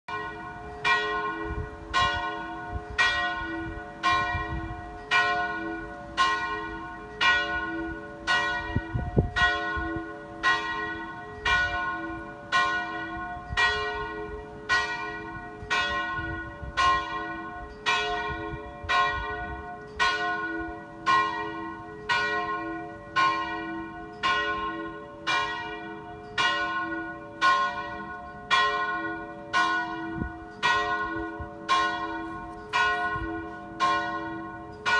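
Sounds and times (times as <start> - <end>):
church bell ringing: 0.1 - 34.9.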